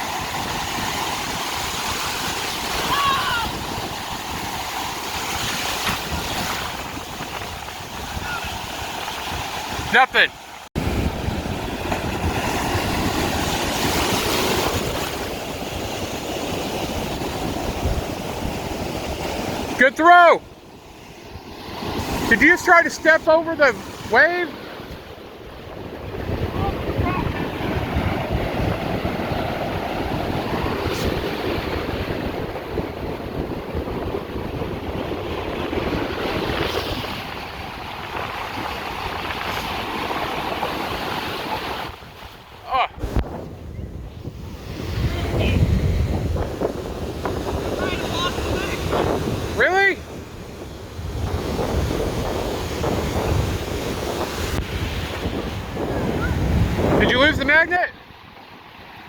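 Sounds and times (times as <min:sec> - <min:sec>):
ocean surf washing ashore: 0:00.0 - 0:59.0
wind buffeting microphone: 0:00.0 - 0:59.0.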